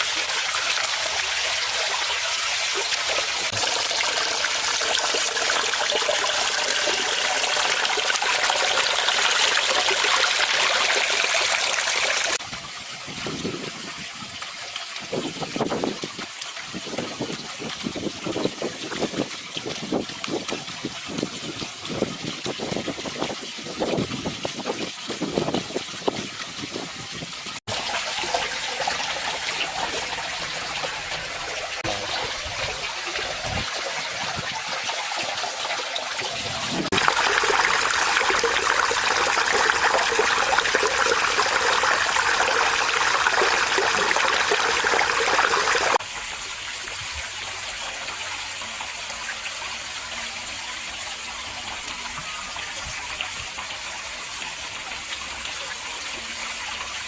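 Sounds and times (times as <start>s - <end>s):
waterfall splashing and trickling: 0.0s - 57.0s.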